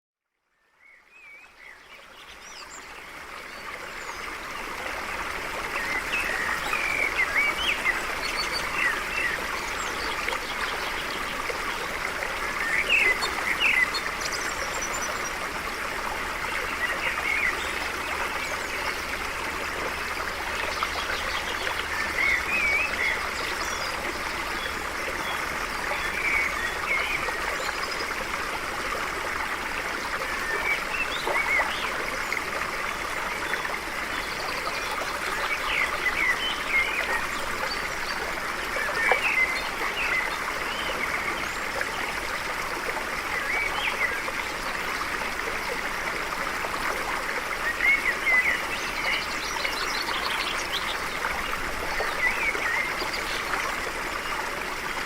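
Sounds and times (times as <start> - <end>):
stream flowing: 0.5 - 55.0.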